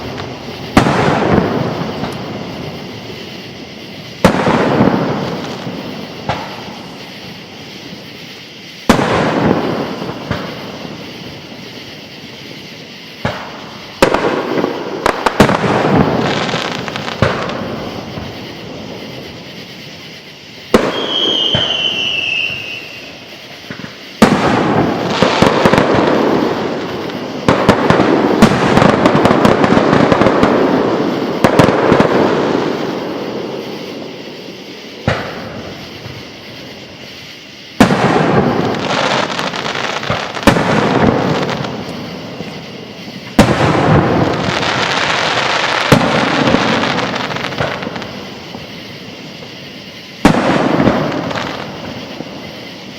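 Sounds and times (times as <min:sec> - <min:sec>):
firework whistle: 0:00.0 - 0:52.9
fireworks booming: 0:00.0 - 0:52.9
fireworks crackling: 0:00.0 - 0:52.9.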